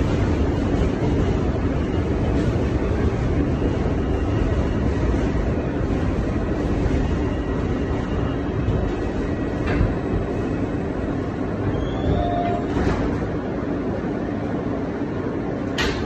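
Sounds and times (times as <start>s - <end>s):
subway wheels rumbling on track: 0.0s - 16.0s.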